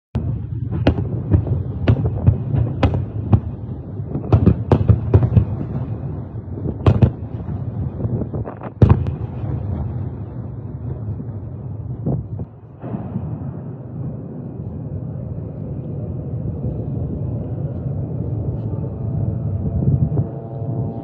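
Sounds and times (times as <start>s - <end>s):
distant bangs and blasts: 0.2s - 17.3s
steady low rumble: 0.2s - 21.0s.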